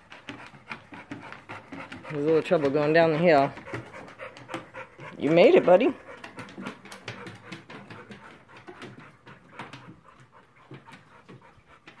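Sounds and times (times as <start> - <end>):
claws clicking on wooden boards: 0.0 - 12.0
dog panting: 0.0 - 12.0.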